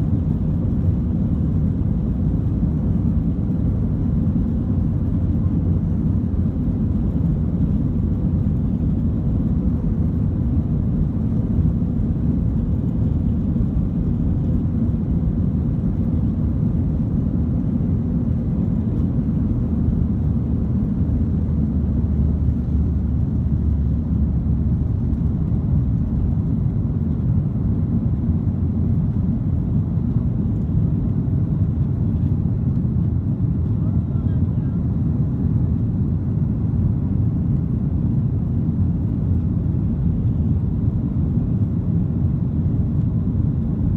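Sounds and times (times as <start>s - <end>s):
airplane cabin rumble: 0.0s - 43.9s.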